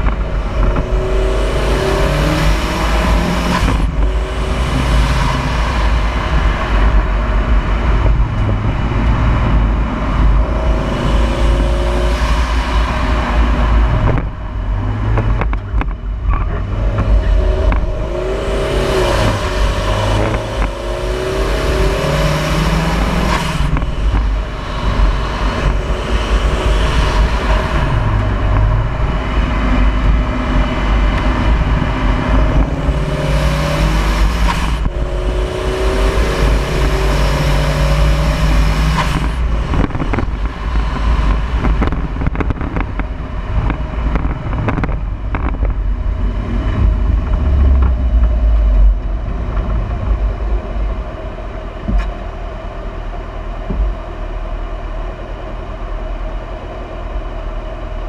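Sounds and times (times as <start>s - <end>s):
car engine accelerating: 0.0s - 58.0s
wind rumbling over microphone: 0.0s - 58.0s.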